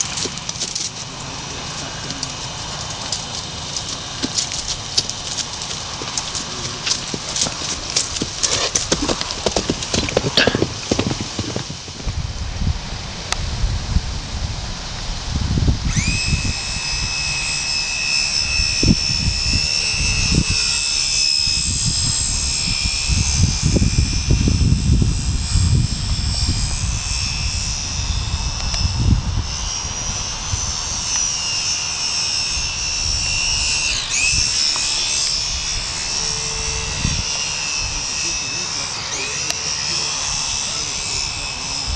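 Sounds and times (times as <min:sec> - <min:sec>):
wind gusts on microphone: 0:00.0 - 0:39.2, 0:39.8 - 0:41.9
model airplane motor whine: 0:00.0 - 0:41.9.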